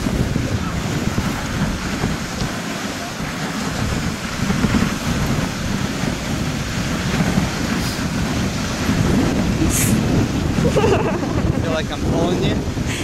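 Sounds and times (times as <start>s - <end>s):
sled runners rumbling on snow: 0.0s - 13.0s
wind buffeting microphone: 0.0s - 13.0s.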